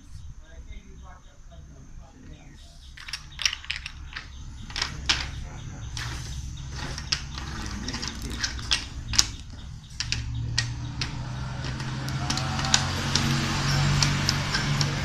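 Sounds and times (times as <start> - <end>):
bottle caps clicking on wood: 3.0 - 15.0.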